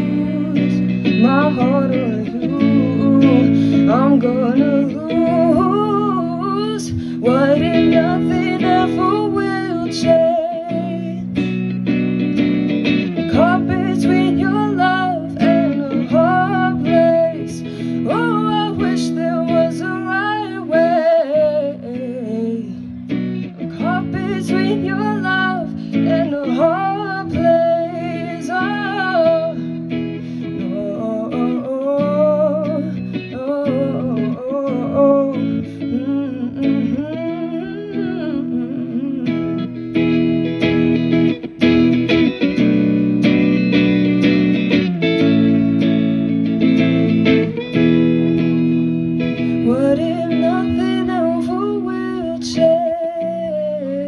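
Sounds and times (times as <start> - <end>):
electric guitar chords: 0.0 - 54.0
woman singing: 0.0 - 54.0.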